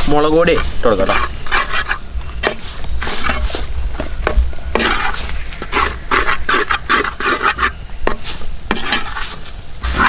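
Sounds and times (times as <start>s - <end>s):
ladle stirring and scraping a pot: 0.0s - 10.0s
masala frying in oil: 0.0s - 10.0s.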